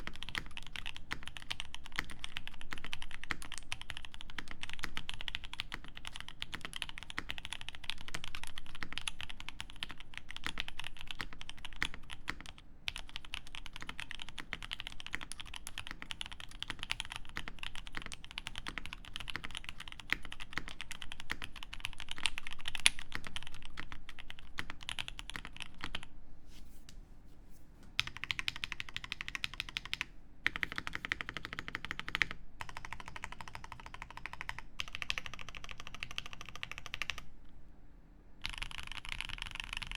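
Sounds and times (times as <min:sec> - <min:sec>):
mechanical keyboard typing: 0:00.0 - 0:26.1, 0:28.0 - 0:37.3, 0:38.4 - 0:39.9.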